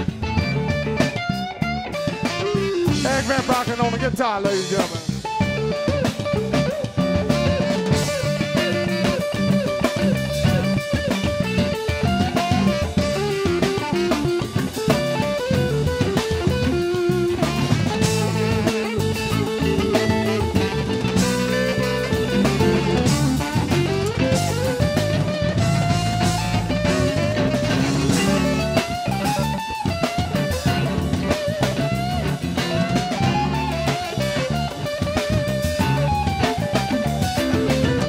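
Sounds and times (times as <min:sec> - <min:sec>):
live blues band playing: 0:00.0 - 0:38.0
saxophone with bending notes: 0:00.0 - 0:38.0.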